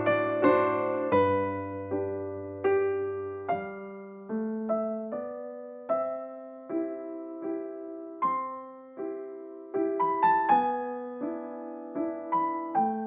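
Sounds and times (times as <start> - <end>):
soft electric piano melody: 0.0 - 13.0.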